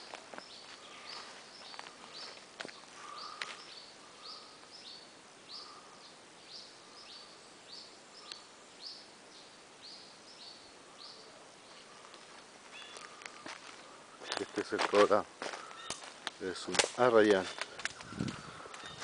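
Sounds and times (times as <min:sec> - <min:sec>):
bird chirping: 0:00.0 - 0:14.8, 0:15.6 - 0:16.1, 0:17.3 - 0:19.0.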